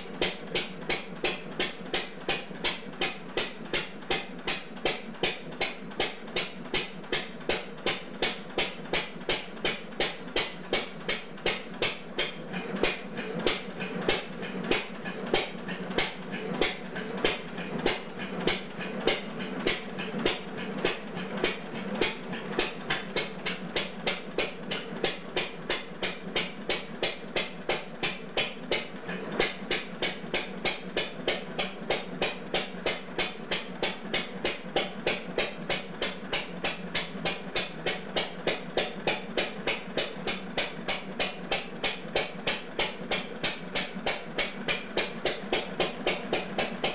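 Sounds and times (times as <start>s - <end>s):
stationary gas engine clattering: 0.0s - 46.9s.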